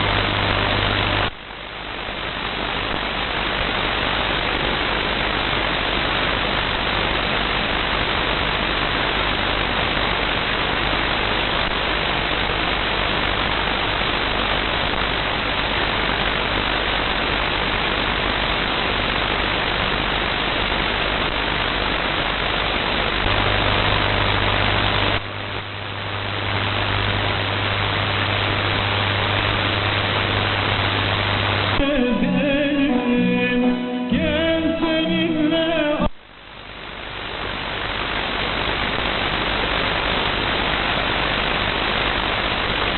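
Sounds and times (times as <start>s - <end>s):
radio rushing noise: 0.0s - 42.9s.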